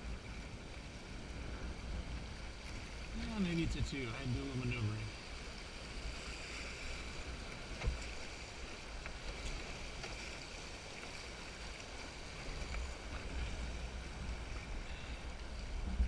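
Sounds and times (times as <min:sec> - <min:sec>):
river water running and splashing: 0:00.0 - 0:16.0.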